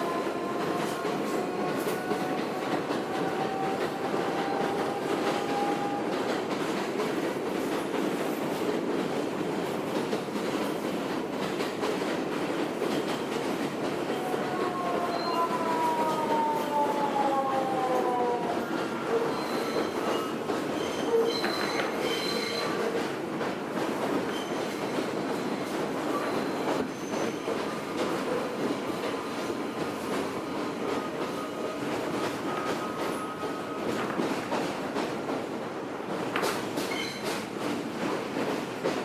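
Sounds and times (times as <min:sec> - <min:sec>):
wheels rumbling on rail: 0:00.0 - 0:39.0.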